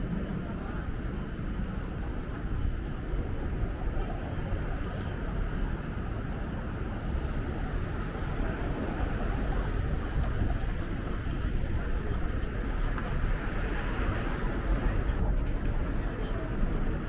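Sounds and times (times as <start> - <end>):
city street noise: 0.0 - 17.0
wind buffeting microphone: 0.0 - 17.0.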